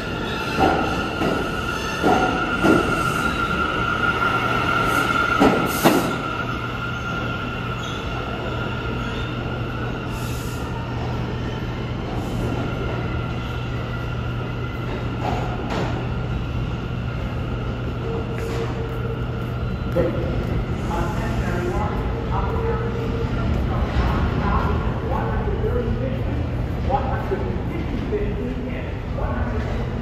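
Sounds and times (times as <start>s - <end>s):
low train hum: 0.0s - 30.0s
subway train wheels squealing: 0.0s - 30.0s.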